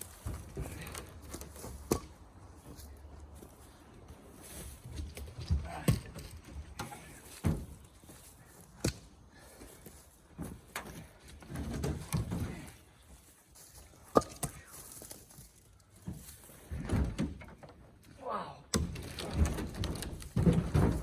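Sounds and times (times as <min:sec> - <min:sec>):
shuffling and scraping: 0:00.0 - 0:16.9.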